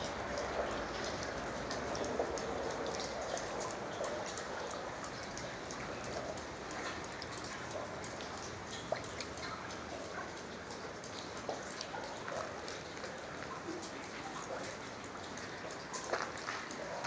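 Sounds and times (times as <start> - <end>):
water dripping: 0.0 - 17.0
water rushing: 0.0 - 17.0.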